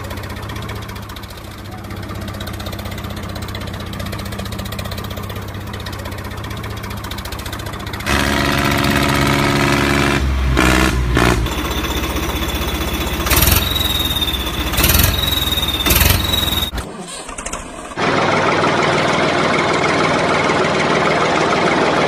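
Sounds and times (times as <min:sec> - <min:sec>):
tractor engine chugging: 0:00.0 - 0:22.0.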